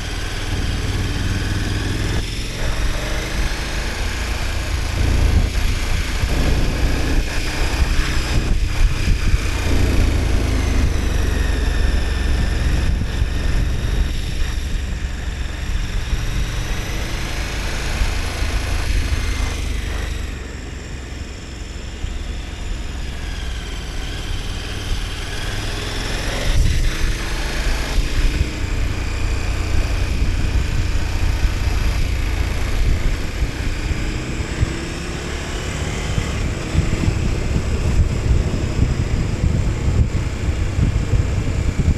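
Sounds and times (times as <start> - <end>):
motorcycle engine revving: 0.0 - 41.9
wind rumble on microphone: 0.0 - 41.9.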